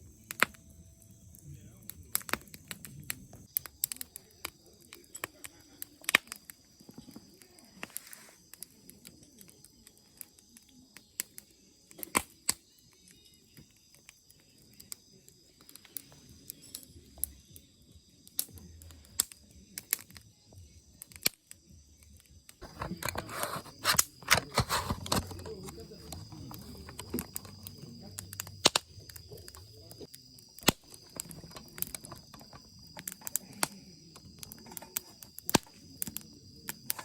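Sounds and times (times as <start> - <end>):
campfire crackling and popping: 0.0 - 37.0.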